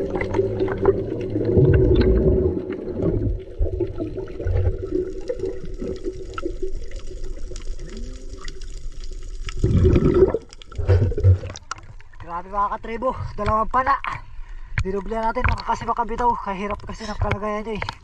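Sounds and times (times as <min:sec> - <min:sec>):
water sloshing and gurgling: 0:00.0 - 0:18.0.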